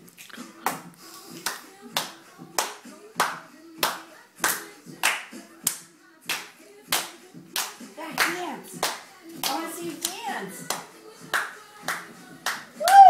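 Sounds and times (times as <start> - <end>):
pop music from a tv: 0.0 - 13.0
hands clapping a steady beat: 0.2 - 13.0.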